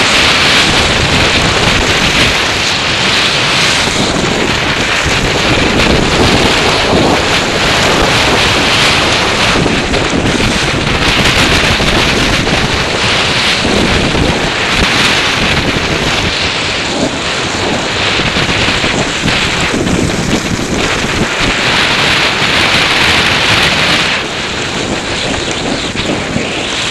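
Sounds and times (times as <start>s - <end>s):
snowboard scraping over snow: 0.0s - 26.9s
wind rushing over microphone: 0.0s - 26.9s.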